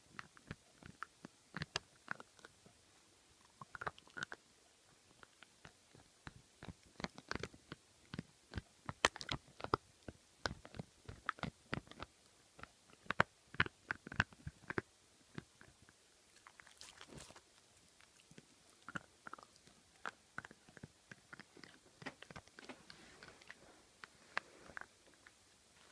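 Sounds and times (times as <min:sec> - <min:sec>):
dog gnawing a chew bone: 0:00.1 - 0:02.5, 0:03.4 - 0:04.4, 0:05.1 - 0:25.4.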